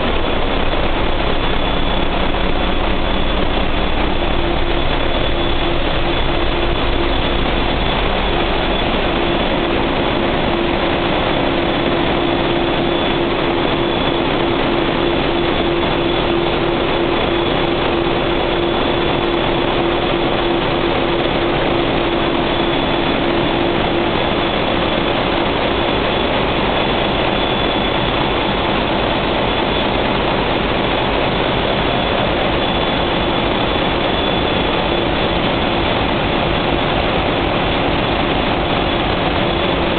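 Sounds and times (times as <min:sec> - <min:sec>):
diesel generator engines running: 0:00.0 - 0:39.9
high whine: 0:00.0 - 0:39.9.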